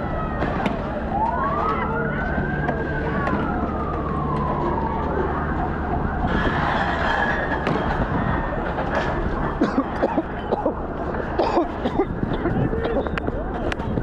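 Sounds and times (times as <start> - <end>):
police siren wailing: 0.0 - 11.4.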